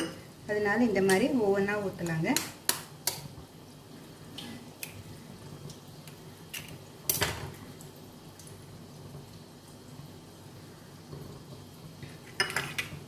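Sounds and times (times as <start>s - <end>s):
gravy simmering in a pan: 1.5s - 13.0s.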